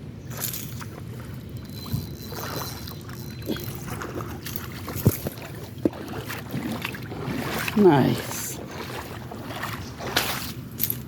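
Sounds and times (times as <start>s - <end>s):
water splashing: 0.3s - 11.0s.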